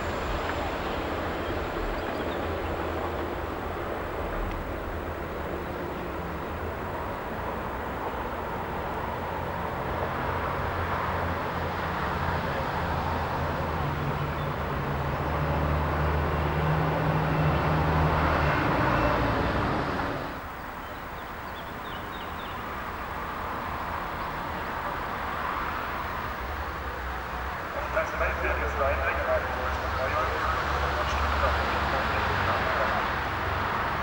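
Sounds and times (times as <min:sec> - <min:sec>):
train passing: 0:00.0 - 0:20.7, 0:22.6 - 0:34.0
rumbling wheel and rail noise: 0:00.0 - 0:21.9, 0:22.6 - 0:34.0.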